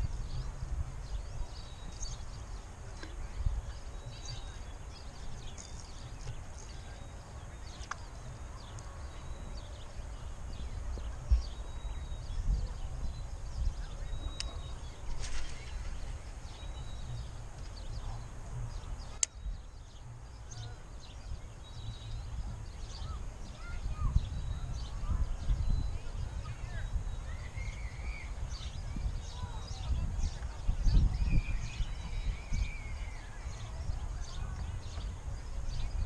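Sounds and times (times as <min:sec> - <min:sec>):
wind buffeting microphone: 0:00.0 - 0:36.0
faint high chirps: 0:01.3 - 0:35.1.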